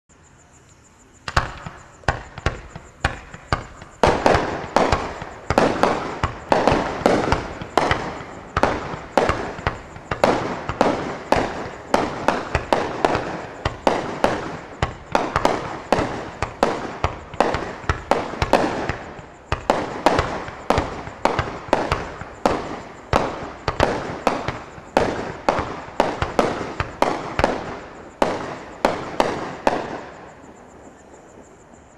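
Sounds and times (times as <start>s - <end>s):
fireworks bangs with echo: 1.2s - 30.7s.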